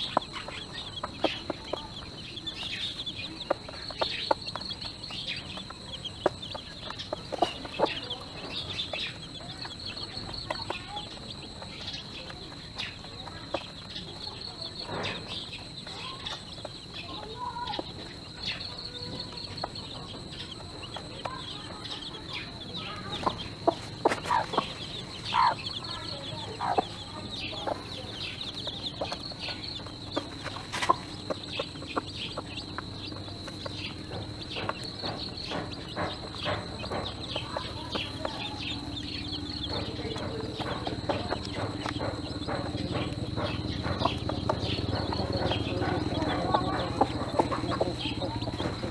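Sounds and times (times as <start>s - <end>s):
beaks pecking grain: 0.0s - 48.9s
chicks peeping: 0.0s - 48.9s
hen clucking: 0.0s - 48.9s.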